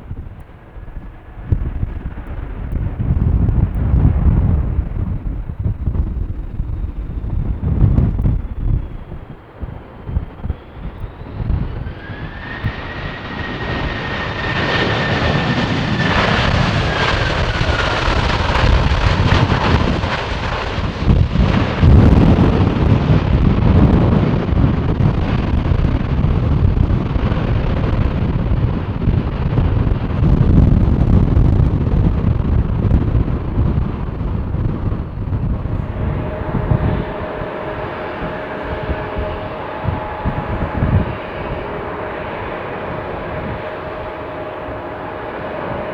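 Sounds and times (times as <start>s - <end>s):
jet airliner passing: 0.0s - 45.9s
wind on microphone: 0.0s - 45.9s.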